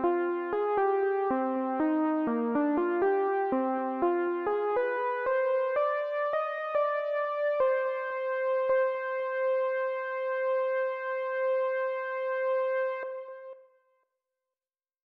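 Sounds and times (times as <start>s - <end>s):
synthesizer keyboard piece: 0.0s - 13.6s.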